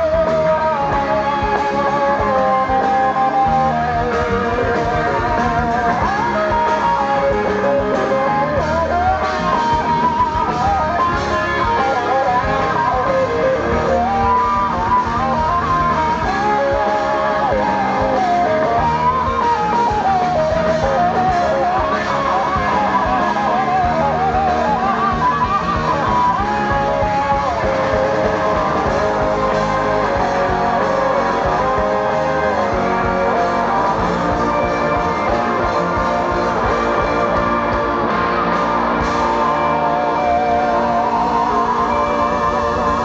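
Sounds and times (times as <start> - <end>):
blues-rock band playing: 0.0 - 43.0
pedal steel guitar sliding notes: 0.0 - 43.0.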